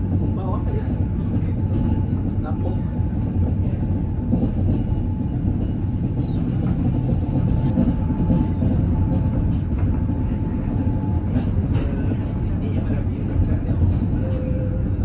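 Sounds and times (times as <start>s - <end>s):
cogwheel train rumbling: 0.0s - 15.0s.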